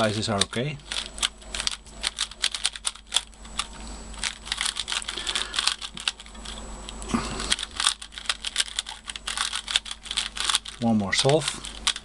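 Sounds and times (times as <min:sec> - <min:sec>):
plastic puzzle cube clicking: 0:00.0 - 0:06.6, 0:07.5 - 0:12.0.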